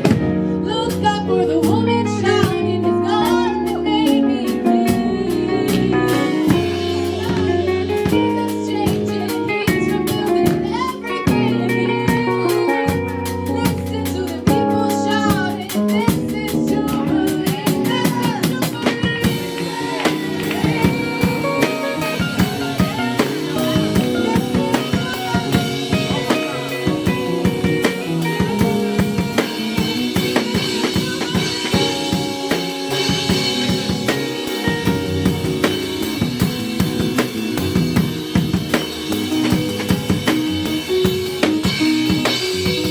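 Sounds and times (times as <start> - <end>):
drum kit: 0.0 - 42.9
keyboard chords: 0.0 - 42.9.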